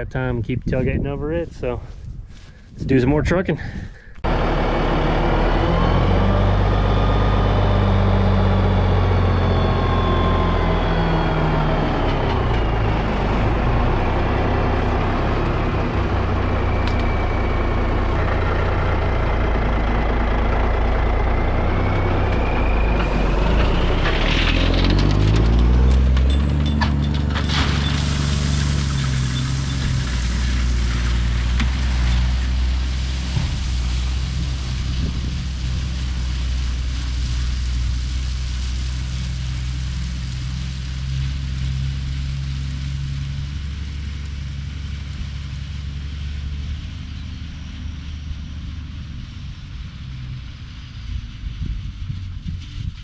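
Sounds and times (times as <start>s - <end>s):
diesel truck engine droning: 4.2s - 53.0s.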